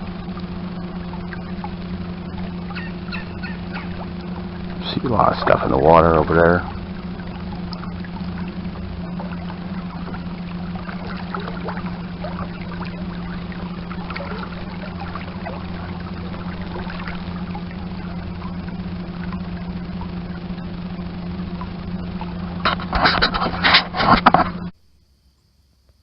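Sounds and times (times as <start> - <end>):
electric motor humming: 0.0 - 23.4
water lapping against hull: 0.0 - 24.8.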